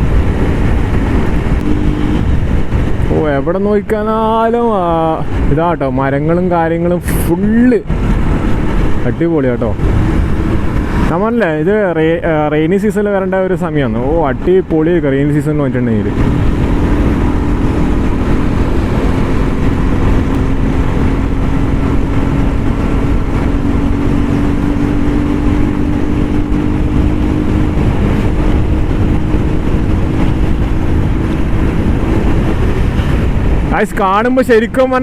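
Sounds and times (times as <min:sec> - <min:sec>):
road and wind rumble: 0:00.0 - 0:35.0
vehicle engine hum: 0:00.0 - 0:35.0.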